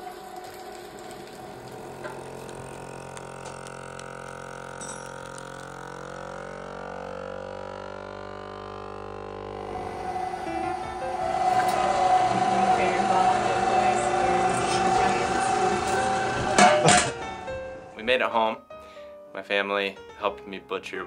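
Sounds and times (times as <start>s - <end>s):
vacuum sealer motor hum: 0.0s - 18.0s.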